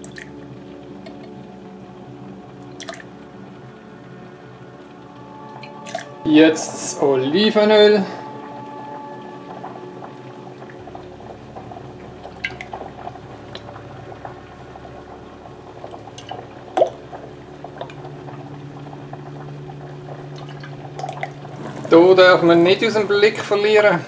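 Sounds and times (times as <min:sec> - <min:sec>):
pot of water boiling: 0:00.0 - 0:24.0
steady hum: 0:00.0 - 0:24.0.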